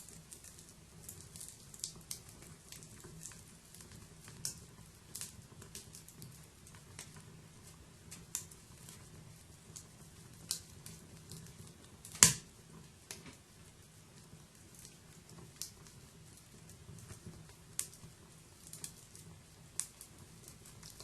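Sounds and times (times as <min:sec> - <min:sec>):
fire popping loudly: 0:00.0 - 0:21.0
wood fire crackling: 0:00.0 - 0:21.0.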